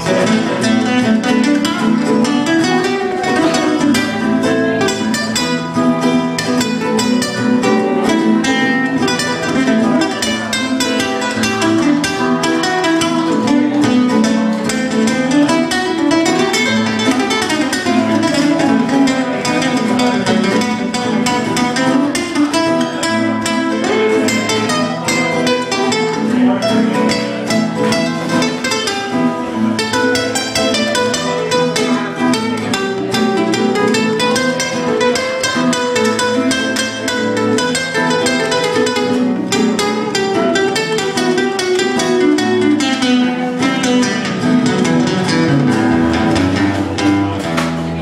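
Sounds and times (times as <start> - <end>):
acoustic guitars playing: 0.0 - 48.0.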